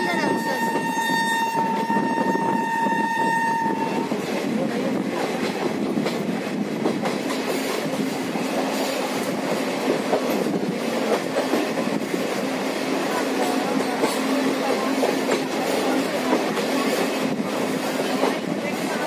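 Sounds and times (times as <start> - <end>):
train wheels rattling: 0.0 - 19.0.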